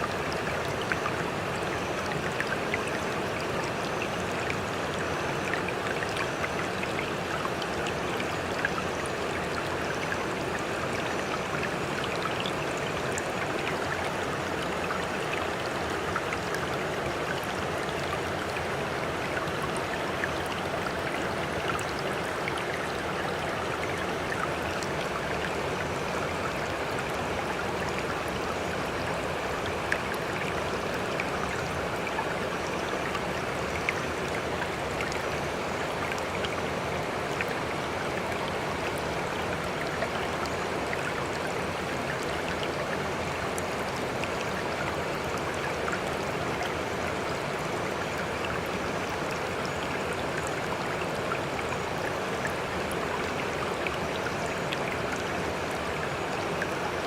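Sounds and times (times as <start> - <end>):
water running and trickling: 0.0 - 57.0.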